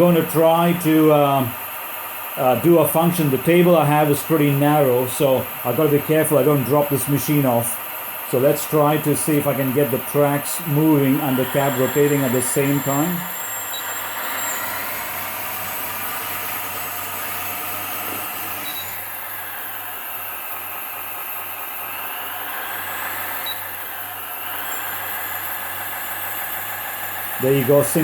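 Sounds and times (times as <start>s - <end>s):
diesel engine sound: 0.0s - 28.0s
hydraulic pump and motors whining: 0.0s - 28.0s.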